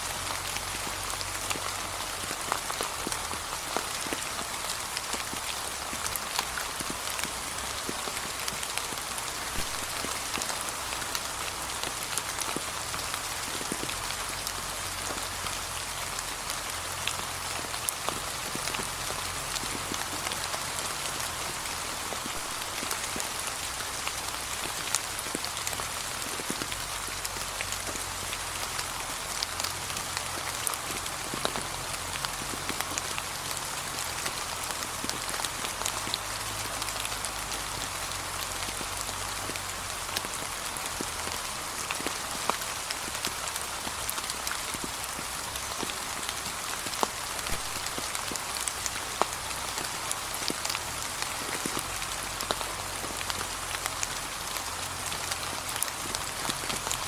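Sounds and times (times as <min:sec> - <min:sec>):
gentle rain hiss: 0:00.0 - 0:57.0
raindrops ticking: 0:00.1 - 0:57.0.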